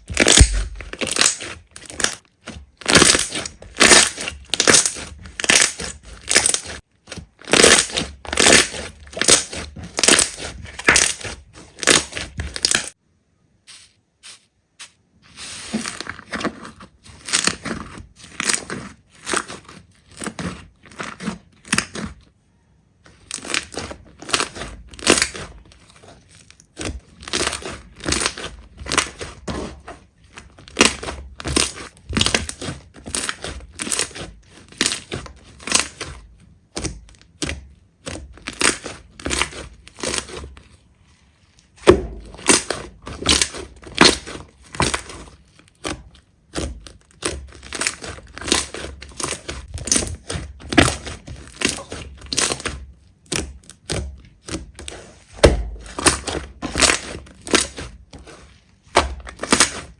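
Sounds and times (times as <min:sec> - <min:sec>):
slime crunching and crackling: 0:00.0 - 0:13.0, 0:15.3 - 0:22.3, 0:23.1 - 0:59.9.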